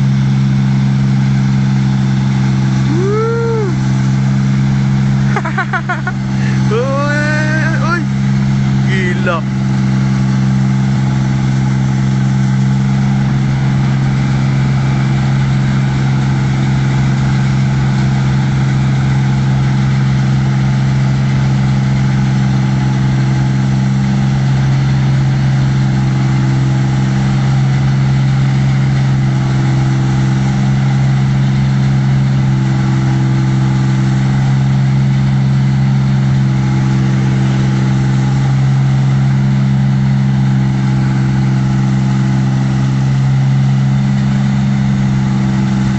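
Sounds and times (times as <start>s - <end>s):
combine harvester engine drone: 0.0s - 45.9s.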